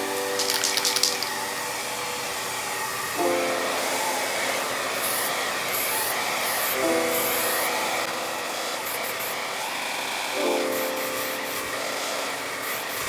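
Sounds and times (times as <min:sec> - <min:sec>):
background music with held chords: 0:00.0 - 0:05.6, 0:06.7 - 0:09.7, 0:10.3 - 0:12.6
aerosol spray hissing: 0:00.0 - 0:13.0.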